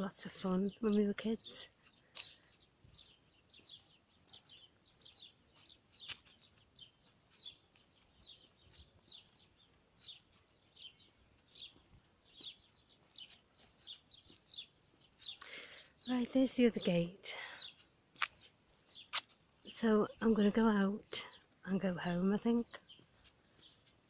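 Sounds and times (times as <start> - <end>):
songbird chirping: 0.0 - 24.0.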